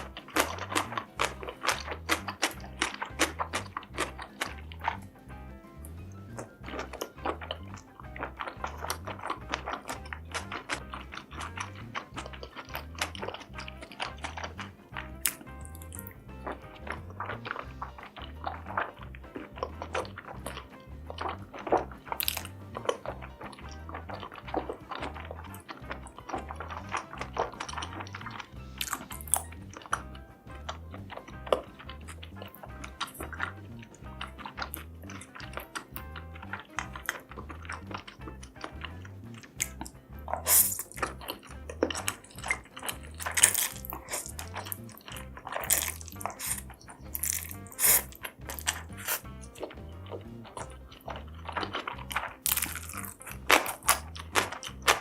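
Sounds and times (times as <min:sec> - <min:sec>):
background music with bass beat: 0:00.0 - 0:55.0
chewing and crunching: 0:00.0 - 0:55.0
slurping: 0:00.0 - 0:55.0
wet mouth smacks: 0:00.0 - 0:55.0.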